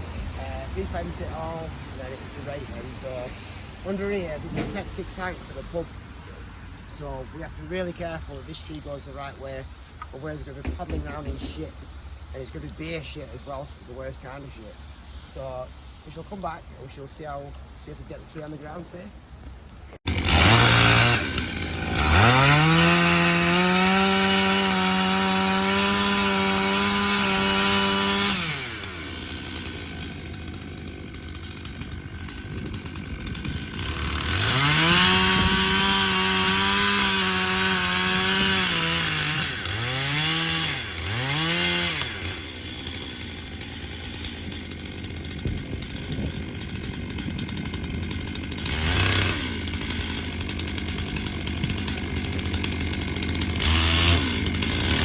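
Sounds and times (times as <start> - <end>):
chainsaw revving: 0.0 - 19.1, 20.0 - 55.0.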